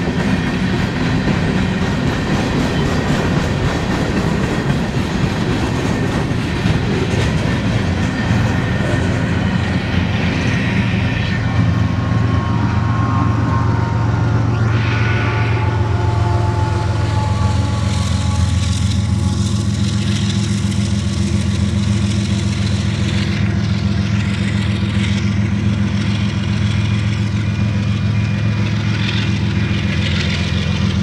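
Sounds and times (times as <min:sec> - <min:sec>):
diesel locomotive engine drone: 0:00.0 - 0:31.0
rail noise: 0:00.0 - 0:31.0.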